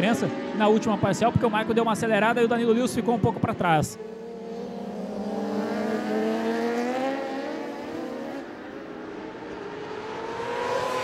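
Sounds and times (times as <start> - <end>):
motorcycle engines accelerating: 0.0 - 11.0.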